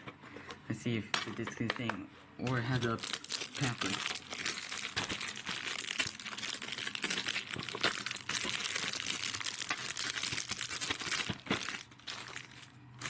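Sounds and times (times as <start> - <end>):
plastic wrapping crinkling and tearing: 2.5 - 13.0.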